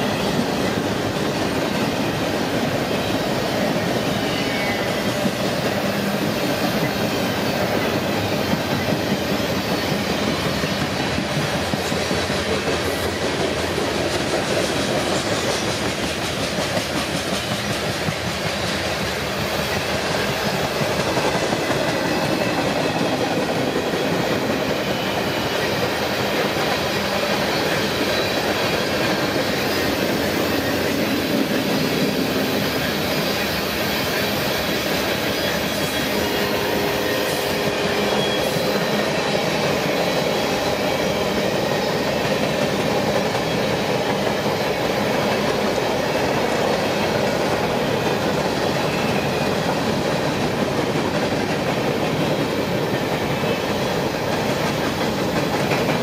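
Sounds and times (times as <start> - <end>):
steel wheels on rail: 0.0 - 56.0.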